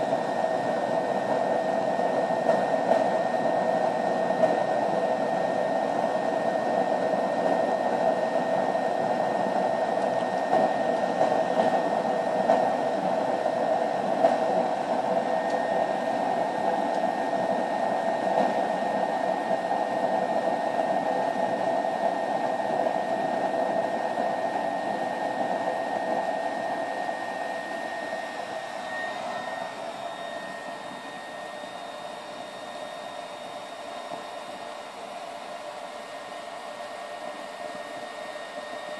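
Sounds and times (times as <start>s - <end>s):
stove fan whirring: 0.0s - 38.9s
thin high whine: 0.0s - 38.9s.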